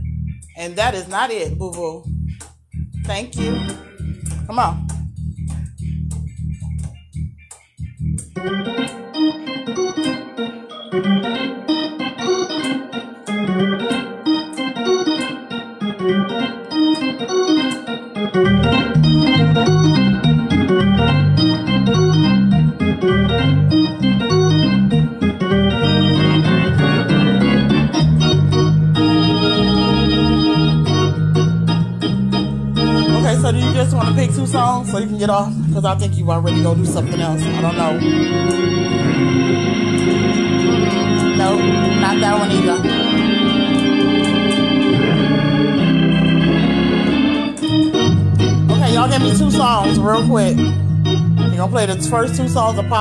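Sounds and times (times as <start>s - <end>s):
heavy bass organ notes: 0.0s - 53.0s
organ playing: 0.0s - 53.0s.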